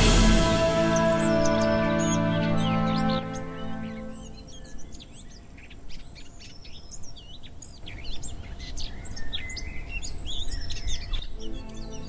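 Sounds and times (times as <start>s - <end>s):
songbirds singing and chirping: 0.2s - 12.0s.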